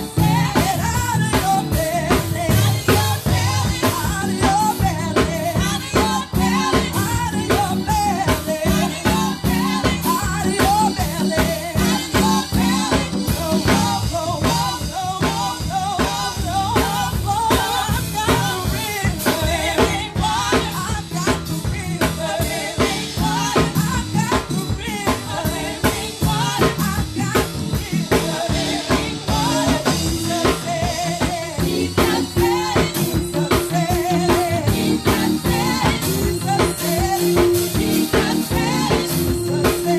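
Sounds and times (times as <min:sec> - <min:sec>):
drum kit beat: 0:00.0 - 0:39.9
gospel band playing: 0:00.0 - 0:39.9
person singing: 0:00.0 - 0:39.9.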